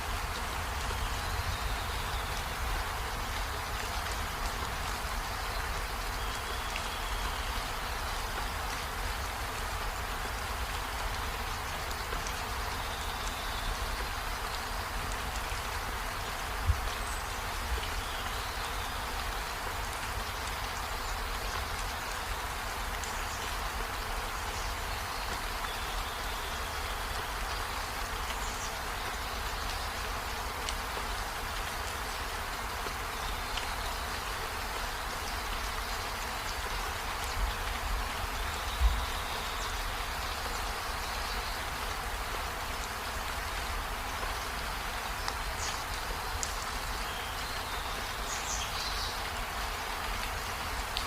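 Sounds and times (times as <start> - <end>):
steady rain on trees: 0.0 - 51.0
rain drop ticks: 0.1 - 51.0.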